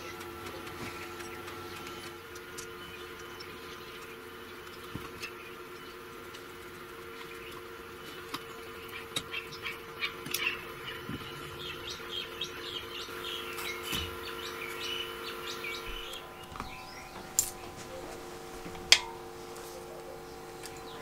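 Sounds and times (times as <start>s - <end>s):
faint steady hum: 0.0s - 21.0s
small birds chirping: 0.0s - 21.0s.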